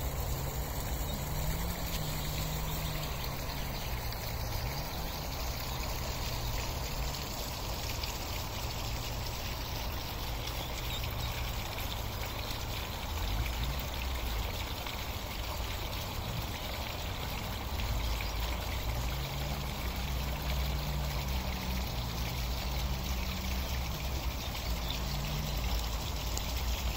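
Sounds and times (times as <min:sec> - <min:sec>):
water trickling over stones: 0:00.0 - 0:26.9.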